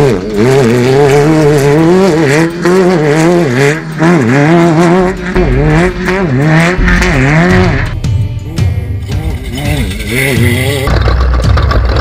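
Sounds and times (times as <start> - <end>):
buggy engine revving hard: 0.0 - 12.0.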